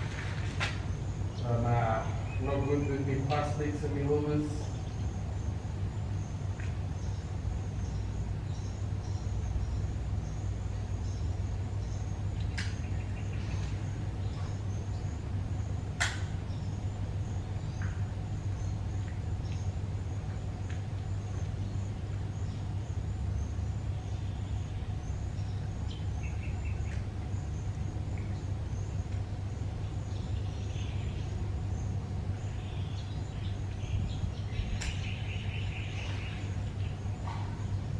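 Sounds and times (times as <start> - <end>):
traffic drone on bridge: 0.0 - 37.9
small birds chirping: 0.8 - 37.9.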